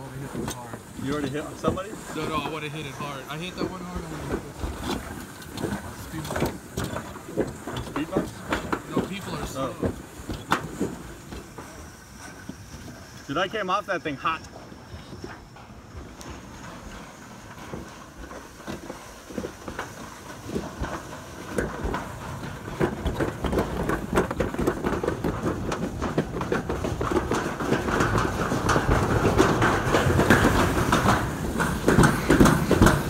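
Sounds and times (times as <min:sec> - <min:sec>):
sled rattling down concrete chute: 0:00.0 - 0:33.0.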